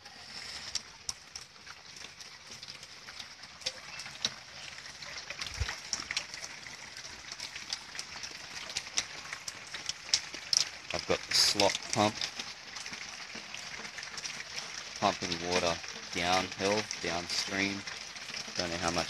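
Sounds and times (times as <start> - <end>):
steady rain on water: 0.0 - 19.0.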